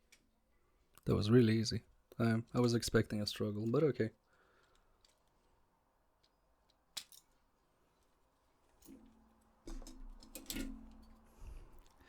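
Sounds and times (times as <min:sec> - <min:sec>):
faint low hum: 0:00.1 - 0:12.0.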